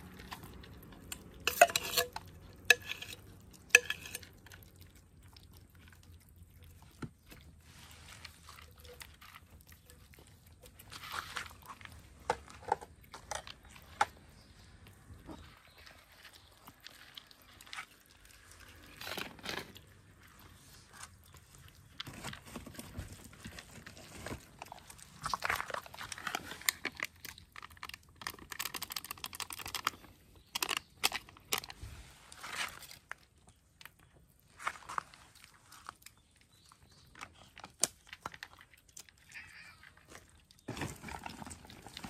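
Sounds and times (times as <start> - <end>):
cats crunching food: 0.0 - 42.0.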